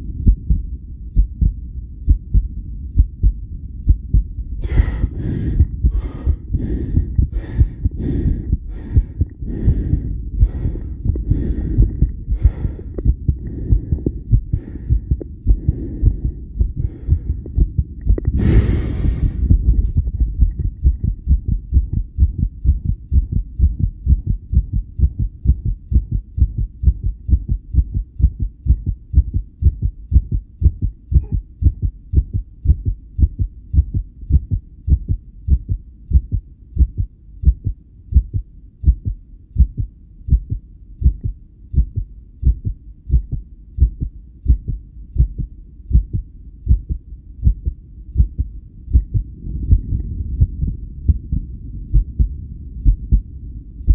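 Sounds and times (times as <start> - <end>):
heartbeat thuds: 0.0 - 53.9.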